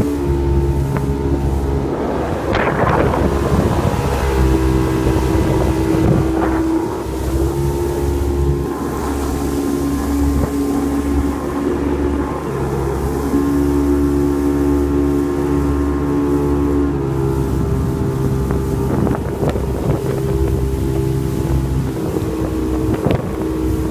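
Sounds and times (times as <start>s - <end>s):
boat engine running: 0.0s - 23.9s
wind on microphone: 0.0s - 23.9s.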